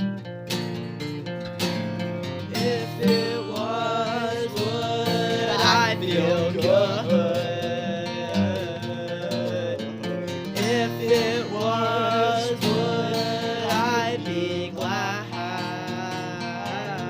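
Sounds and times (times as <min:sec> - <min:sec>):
acoustic guitar: 0:00.0 - 0:17.0
person singing: 0:02.4 - 0:17.0.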